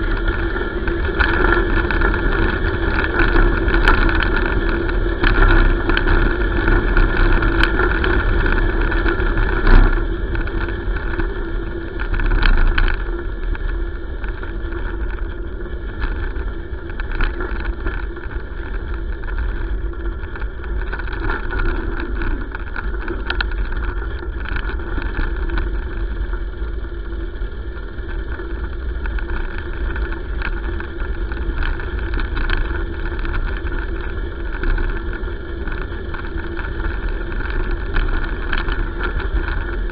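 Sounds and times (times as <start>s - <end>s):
bike rattles and knocks: 0.0s - 26.9s, 27.7s - 39.9s
wind buffeting microphone: 0.0s - 39.9s.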